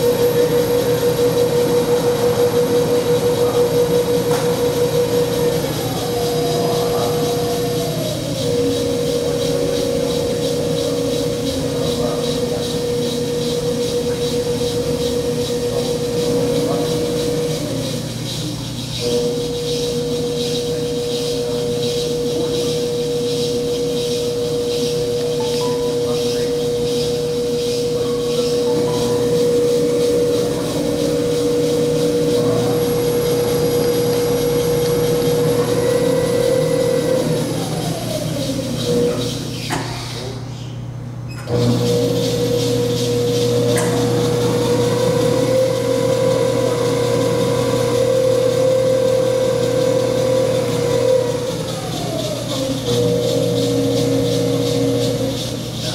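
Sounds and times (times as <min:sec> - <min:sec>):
electric motor whine: 0:00.0 - 0:39.8, 0:41.5 - 0:55.9.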